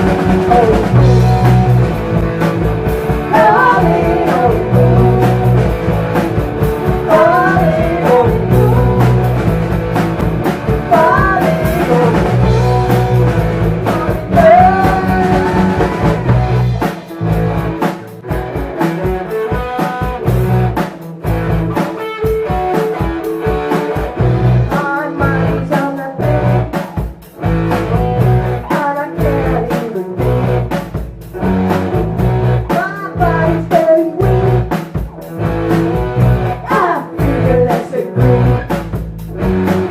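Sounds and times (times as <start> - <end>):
electric guitar lead bending: 0.0 - 26.7, 30.2 - 39.9
blues-rock band playing: 0.0 - 39.9.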